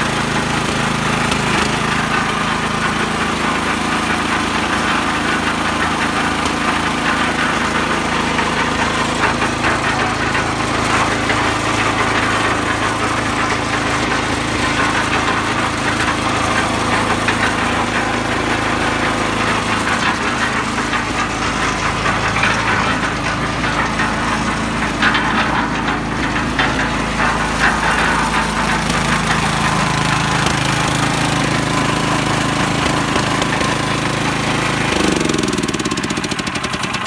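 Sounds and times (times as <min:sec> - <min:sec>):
concrete mixer engine running: 0:00.0 - 0:37.0.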